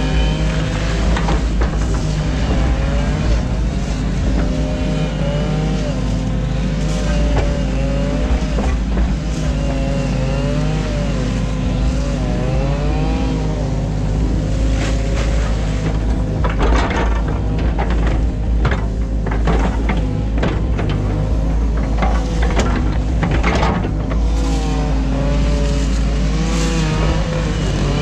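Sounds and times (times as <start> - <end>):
excavator diesel engine running: 0.0 - 28.0
hydraulic whine: 0.0 - 28.0.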